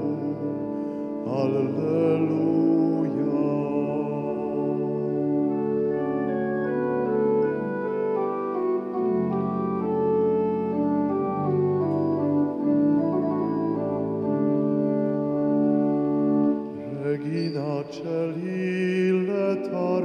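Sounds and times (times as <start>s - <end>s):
church organ chords: 0.0s - 20.0s.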